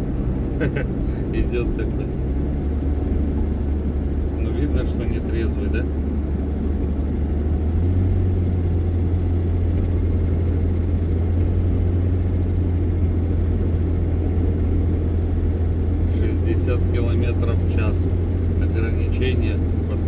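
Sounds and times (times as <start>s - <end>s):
vehicle engine and road drone: 0.0s - 20.0s.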